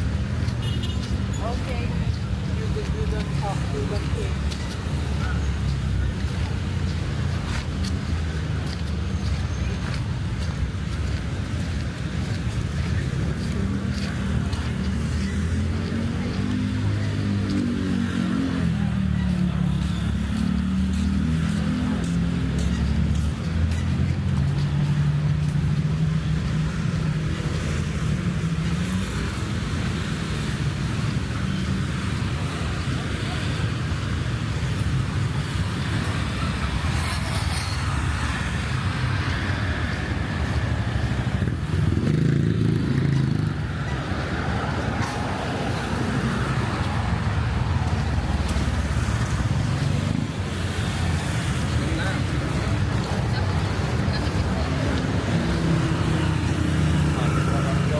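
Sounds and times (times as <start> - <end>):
traffic passing: 0.0 - 57.9.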